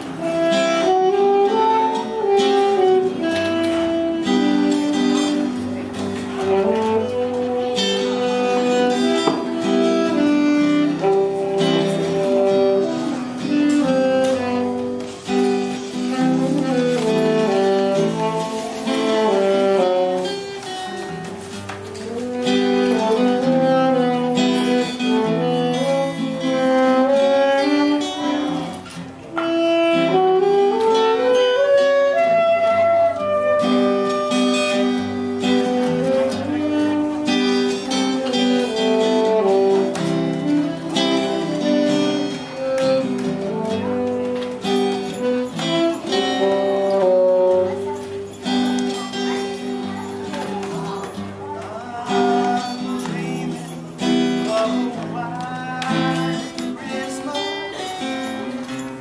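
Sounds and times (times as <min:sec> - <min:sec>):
low instrumental accompaniment: 0:00.0 - 0:58.8
solo instrumental melody: 0:00.0 - 0:59.0.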